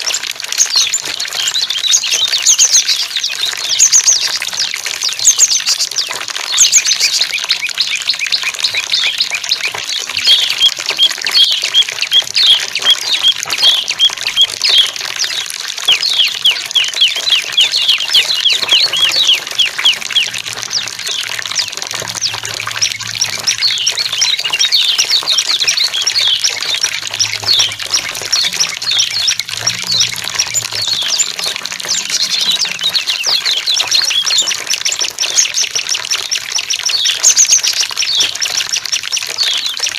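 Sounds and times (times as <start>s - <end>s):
faint running water: 0.0s - 39.9s
songbirds chirping: 0.0s - 39.9s.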